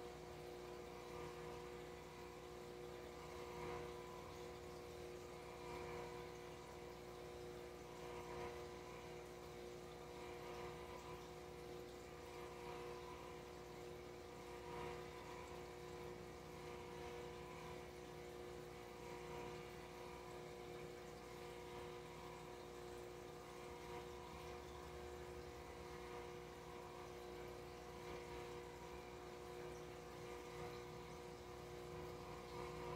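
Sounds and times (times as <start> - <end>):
aquarium air pump humming: 0.0 - 32.9.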